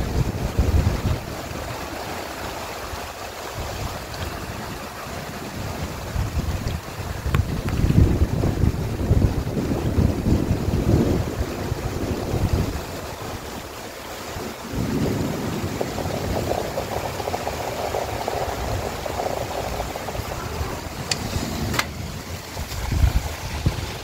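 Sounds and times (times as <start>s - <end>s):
heavy rain falling: 0.0s - 24.0s
storm wind gusting: 0.0s - 24.0s
wind buffeting microphone: 0.0s - 24.0s.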